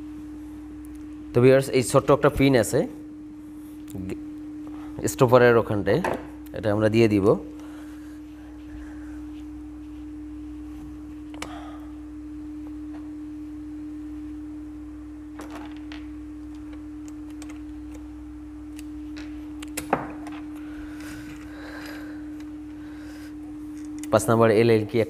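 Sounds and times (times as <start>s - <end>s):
steady humming tone: 0.0s - 25.0s.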